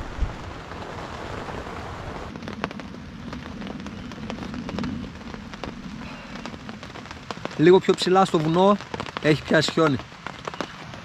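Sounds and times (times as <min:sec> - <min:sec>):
rain hiss: 0:00.0 - 0:11.0
raindrops ticking on surface: 0:00.0 - 0:11.0.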